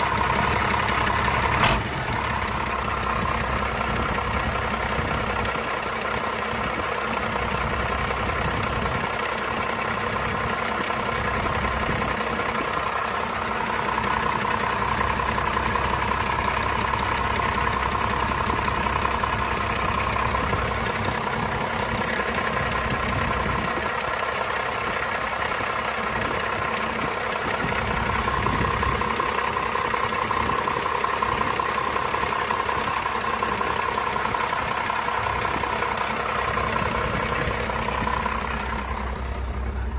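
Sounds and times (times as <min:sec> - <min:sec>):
diesel engine idling: 0:00.0 - 0:39.9
high engine whine: 0:00.0 - 0:39.9.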